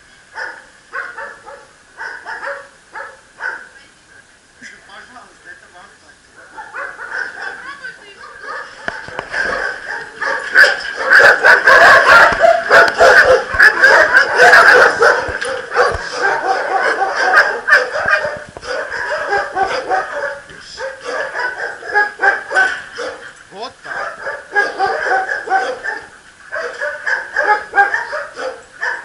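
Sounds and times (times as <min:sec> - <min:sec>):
dogs barking and yelping: 0:00.3 - 0:03.8, 0:06.5 - 0:29.0.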